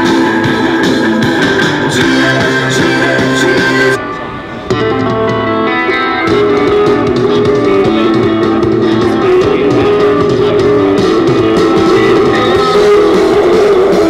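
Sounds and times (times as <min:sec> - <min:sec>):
rock song through speakers: 0:00.0 - 0:14.0.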